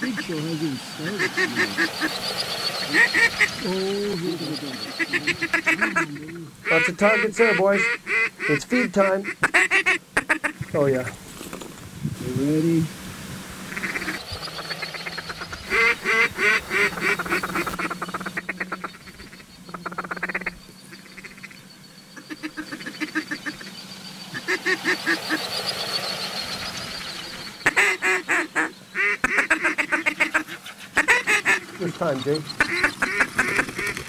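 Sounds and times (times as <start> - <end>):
ducks quacking: 0.0 - 11.2, 13.7 - 34.0
geese honking: 0.0 - 11.2, 13.7 - 34.0.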